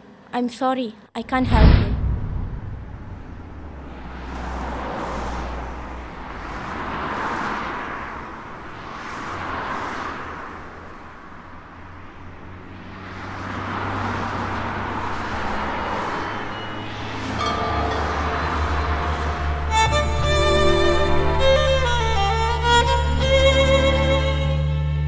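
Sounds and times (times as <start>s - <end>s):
vehicles passing: 1.2s - 25.0s.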